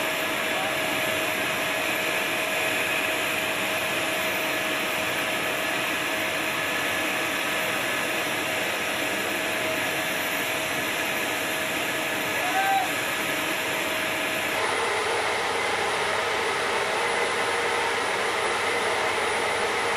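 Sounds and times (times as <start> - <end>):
turbine power unit whine: 0.0 - 19.9.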